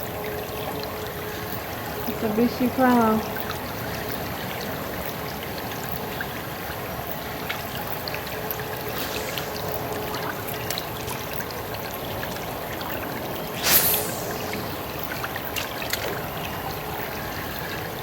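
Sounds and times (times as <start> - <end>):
river water flowing: 0.2 - 18.0.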